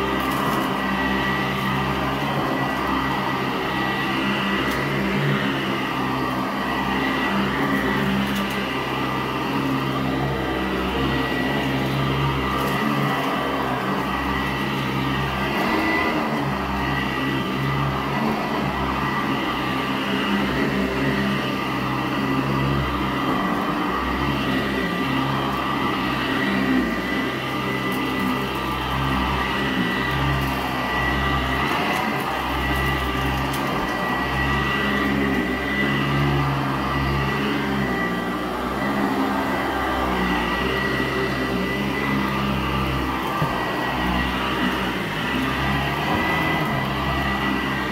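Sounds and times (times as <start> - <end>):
upright vacuum motor whine: 0.0 - 47.9
vacuum rumble on carpet: 0.0 - 47.9.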